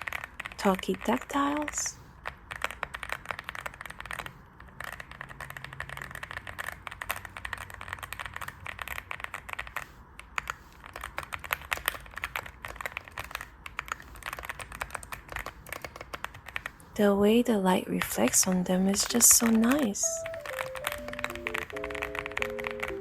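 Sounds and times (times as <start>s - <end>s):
fast typing on mechanical keyboard: 0.0s - 17.2s, 17.8s - 23.0s.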